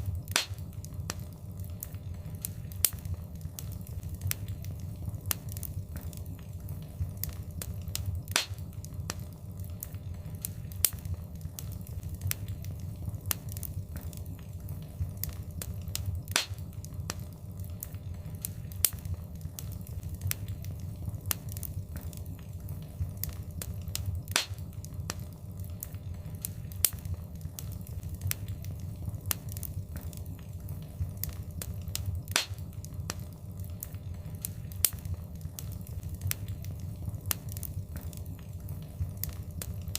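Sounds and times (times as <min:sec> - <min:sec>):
fire pops: 0:00.0 - 0:39.9
low rumble of flames: 0:00.0 - 0:39.9
wood fire crackling: 0:00.0 - 0:39.9.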